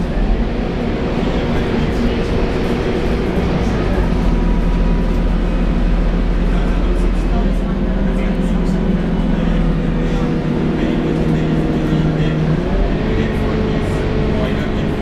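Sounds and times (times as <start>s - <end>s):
bus engine drone: 0.0s - 15.0s
road noise: 0.0s - 15.0s.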